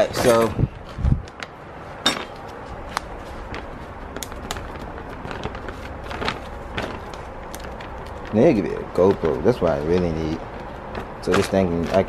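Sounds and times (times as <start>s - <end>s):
plastic bag crinkling: 2.3s - 12.0s.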